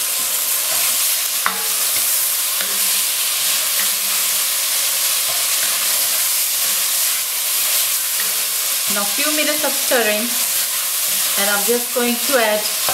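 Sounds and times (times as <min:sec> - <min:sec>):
food sizzling in oil: 0:00.0 - 0:12.9.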